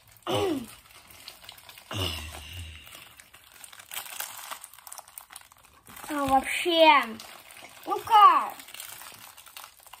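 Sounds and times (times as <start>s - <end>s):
plastic bag rustling and crinkling: 0.0s - 10.0s.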